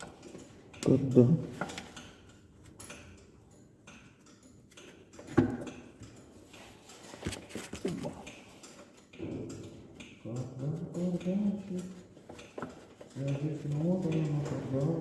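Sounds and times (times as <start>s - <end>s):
tools knocking on metal parts: 0.0s - 15.0s.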